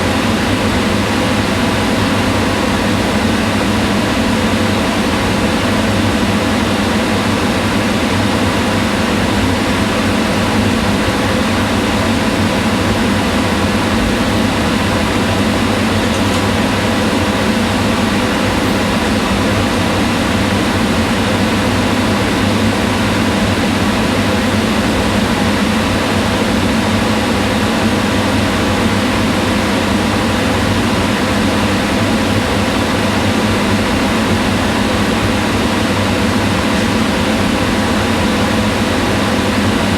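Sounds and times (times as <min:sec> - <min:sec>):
range hood fan whirring: 0:00.0 - 0:39.9.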